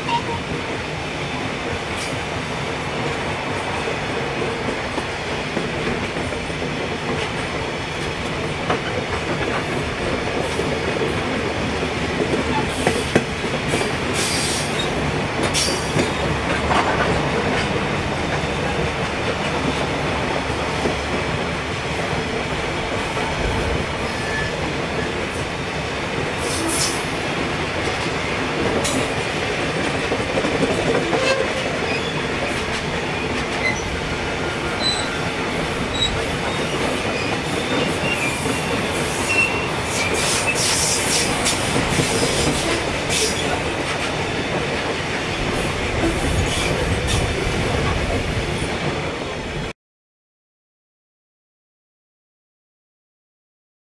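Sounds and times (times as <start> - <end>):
freight wagons rumbling on rails: 0.0 - 49.6.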